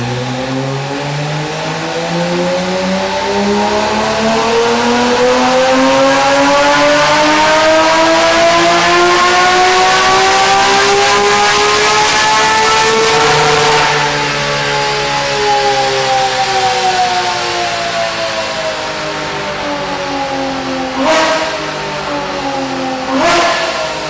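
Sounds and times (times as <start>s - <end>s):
car engine revving loudly: 0.0s - 24.0s.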